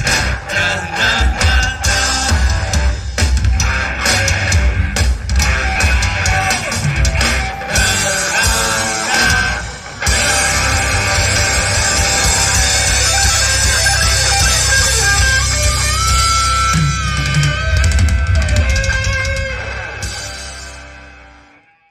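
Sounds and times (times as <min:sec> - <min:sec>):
live rock band playing: 0:00.0 - 0:21.7.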